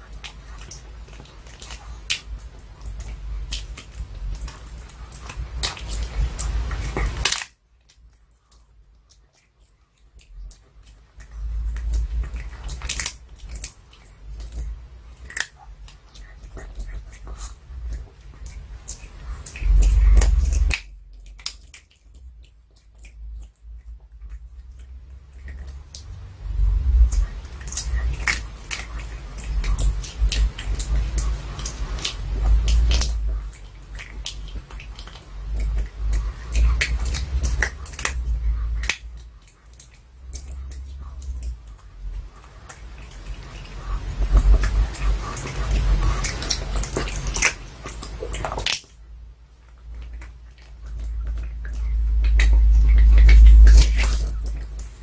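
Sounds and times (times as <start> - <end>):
dog crunching a bone treat: 0.0 - 55.0.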